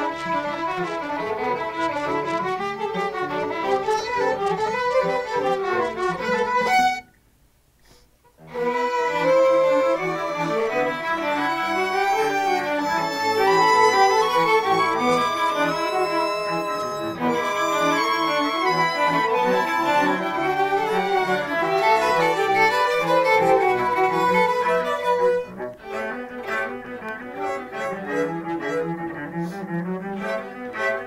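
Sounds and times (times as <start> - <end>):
string orchestra playing: 0.0 - 7.0, 8.4 - 31.0.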